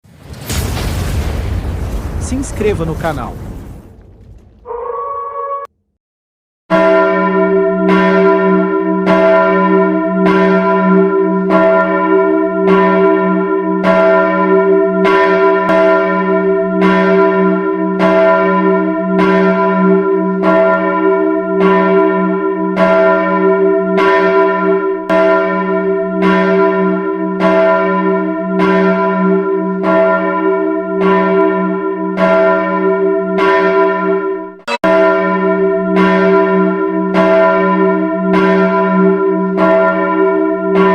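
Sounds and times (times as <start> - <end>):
church bell ringing: 6.7 - 40.9.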